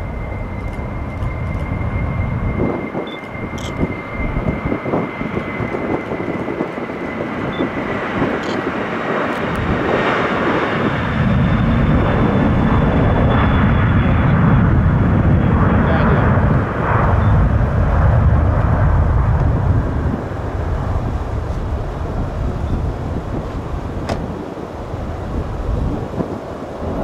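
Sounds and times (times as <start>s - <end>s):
high jet whine: 0.0s - 27.0s
jet engine roar: 0.0s - 27.0s.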